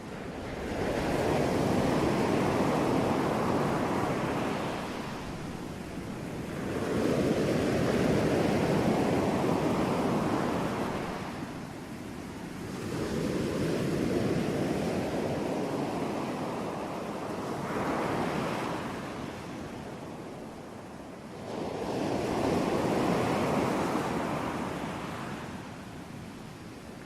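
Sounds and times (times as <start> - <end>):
ocean waves washing ashore: 0.0 - 27.0.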